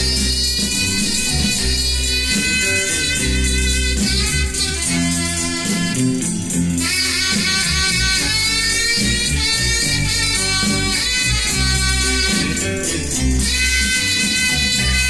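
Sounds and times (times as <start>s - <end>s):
bass: 0.0s - 15.0s
drum kit: 0.0s - 15.0s
electric guitar: 0.0s - 15.0s.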